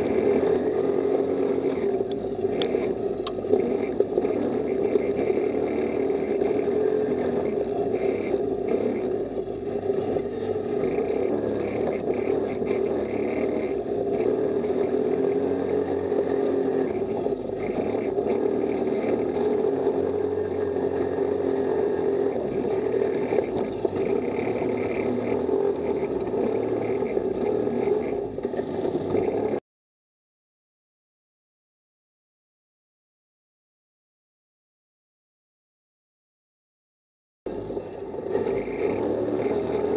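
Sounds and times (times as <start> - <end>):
buggy engine running: 0.0 - 29.6, 37.5 - 39.9.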